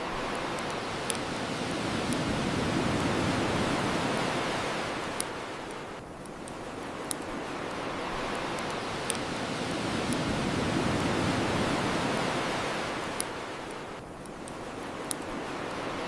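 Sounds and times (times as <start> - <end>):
ocean wave washing ashore: 0.0 - 6.0, 6.6 - 14.0, 14.6 - 16.0.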